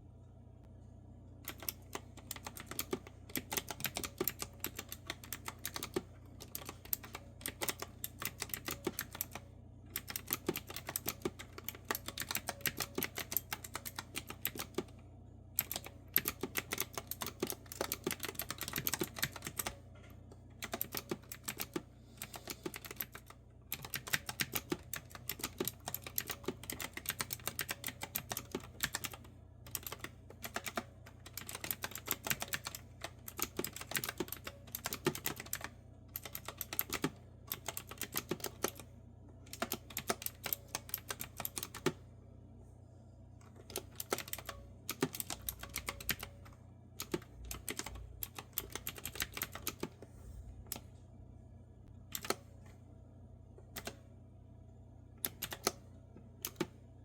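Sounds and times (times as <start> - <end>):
typing on clicky keyboard: 1.4 - 14.9, 15.6 - 19.8, 20.6 - 38.9, 39.5 - 42.0, 43.6 - 50.0, 52.1 - 52.4, 55.2 - 55.8, 56.4 - 56.7.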